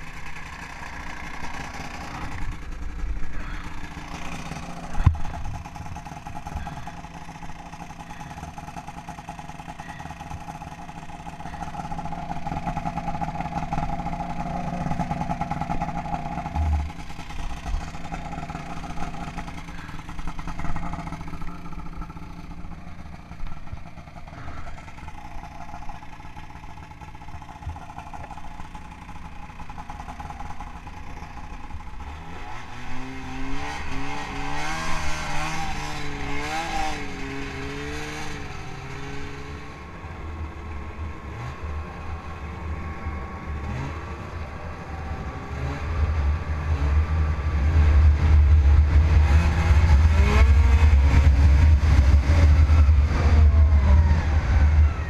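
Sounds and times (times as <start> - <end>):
snowmobile engine idling: 0.0 - 55.0
snowmobile engine revving: 0.0 - 55.0.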